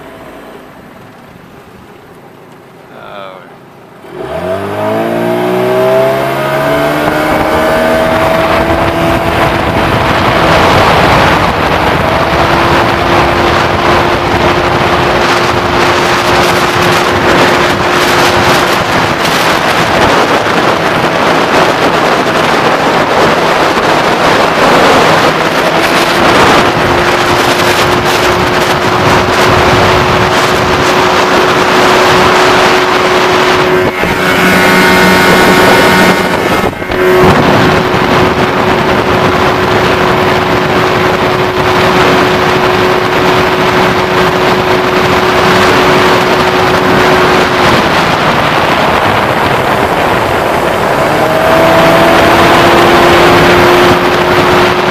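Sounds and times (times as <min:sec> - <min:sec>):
outboard engine running: 0:00.0 - 0:54.9
wind noise on microphone: 0:02.9 - 0:54.9.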